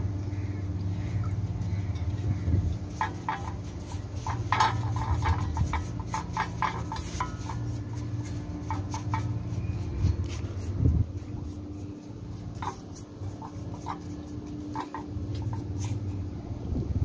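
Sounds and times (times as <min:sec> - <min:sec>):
steady low hum: 0:00.0 - 0:17.0
paint brush scratching on metal: 0:01.0 - 0:16.3.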